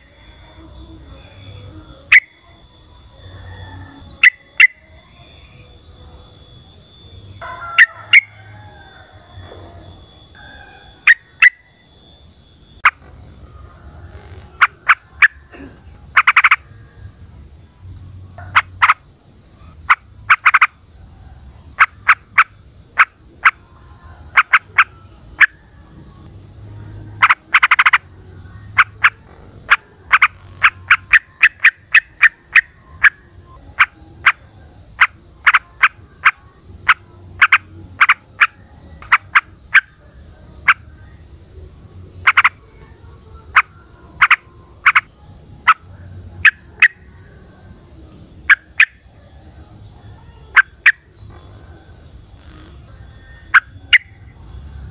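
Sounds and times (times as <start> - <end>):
insect trilling: 0.0 - 54.9.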